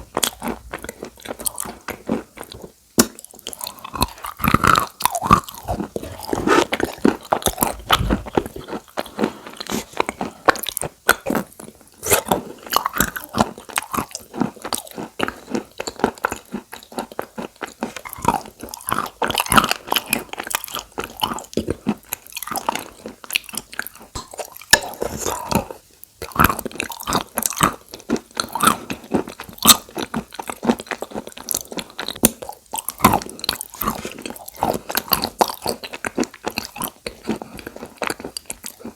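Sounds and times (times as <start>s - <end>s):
chewing and crunching chalk: 0.0s - 38.9s.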